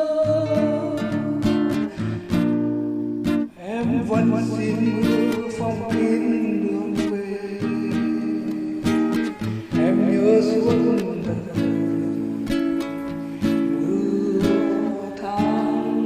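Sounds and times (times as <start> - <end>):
acoustic guitar ballad: 0.0 - 16.0.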